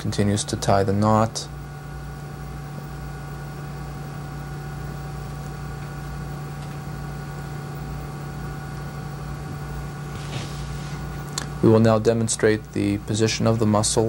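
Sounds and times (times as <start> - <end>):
low hum with hiss: 0.0 - 14.0.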